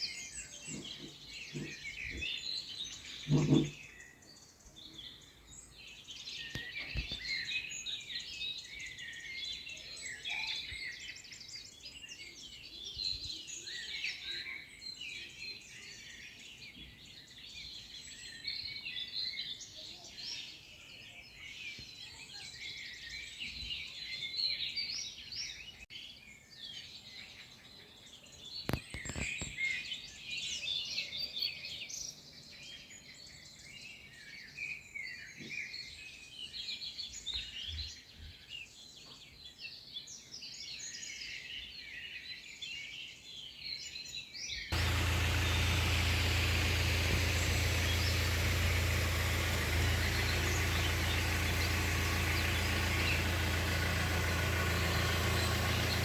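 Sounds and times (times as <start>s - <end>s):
small birds chirping and singing: 0.0s - 56.0s.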